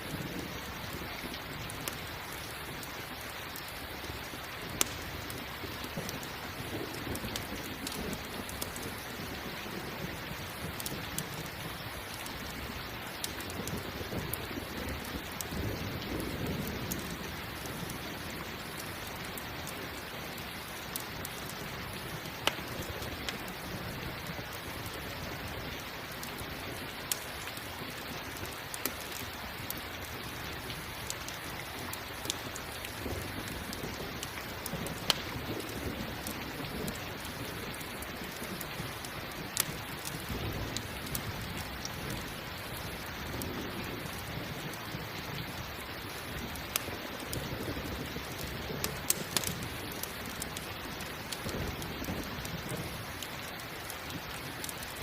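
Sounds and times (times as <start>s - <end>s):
steady rain falling: 0.0s - 55.0s
low rumble of thunder: 4.0s - 28.6s, 32.5s - 53.2s.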